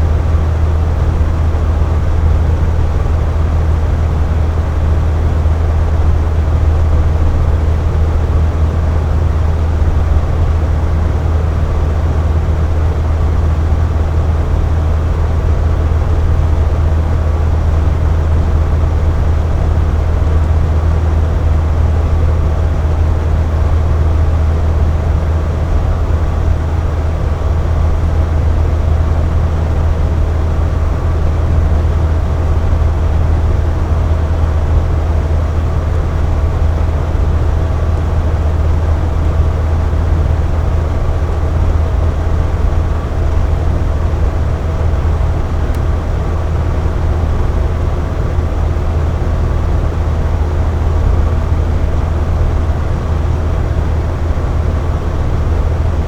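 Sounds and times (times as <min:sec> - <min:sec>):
air conditioner humming: 0:00.0 - 0:56.0.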